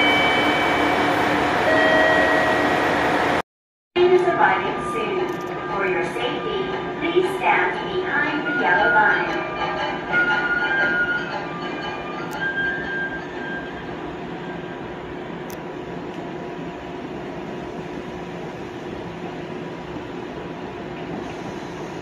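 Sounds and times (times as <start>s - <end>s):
diesel train running: 0.0s - 3.4s, 4.0s - 22.0s.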